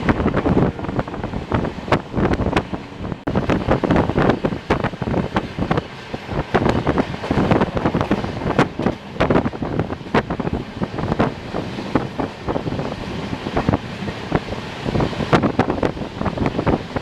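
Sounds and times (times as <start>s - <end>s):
passenger train running: 0.0s - 17.0s
wind buffeting microphone: 0.0s - 17.0s.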